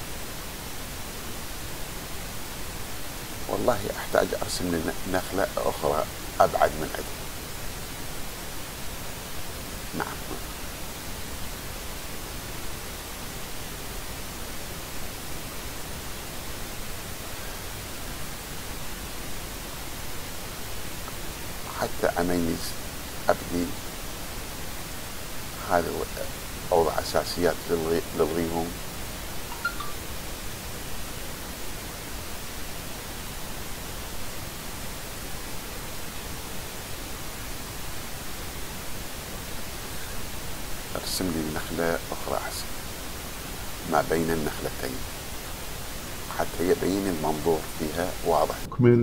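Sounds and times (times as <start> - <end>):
steady background hiss: 0.0 - 49.0.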